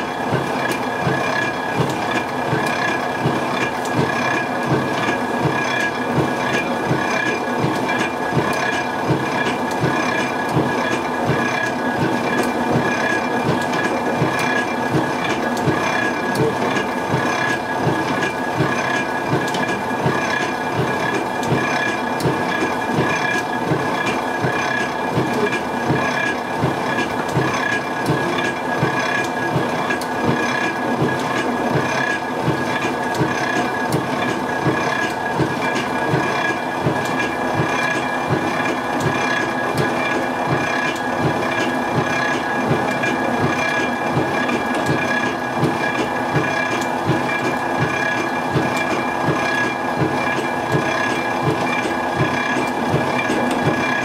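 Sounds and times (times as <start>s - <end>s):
steady machine whine: 0.0s - 54.0s
machinery clattering: 0.3s - 54.0s.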